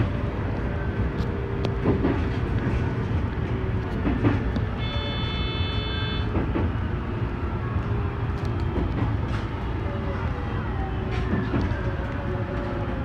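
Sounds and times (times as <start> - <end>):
train running low rumble: 0.0 - 13.0.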